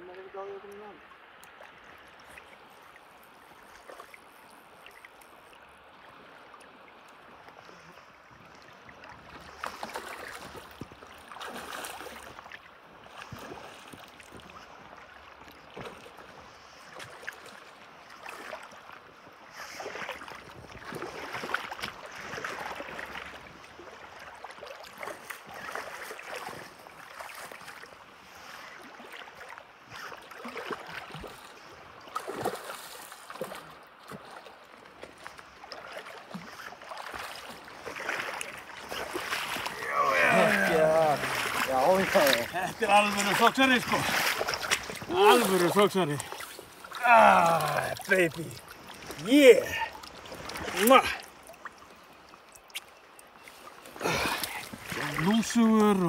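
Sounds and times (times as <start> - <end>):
river water running: 0.0 - 56.0.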